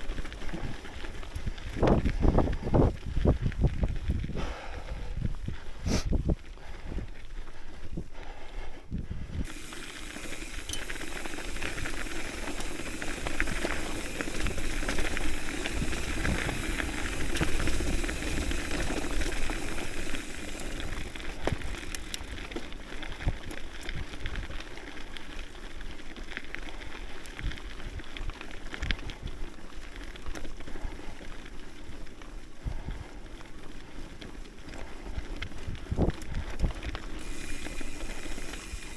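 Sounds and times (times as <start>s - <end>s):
bike clicks and rattles: 0.0s - 5.7s, 6.5s - 38.9s.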